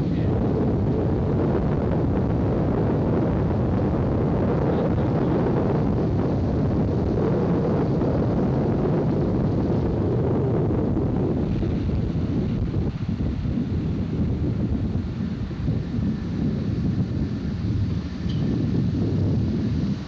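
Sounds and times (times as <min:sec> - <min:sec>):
truck engine and road noise: 0:00.0 - 0:20.0
wind buffeting microphone: 0:00.0 - 0:20.0.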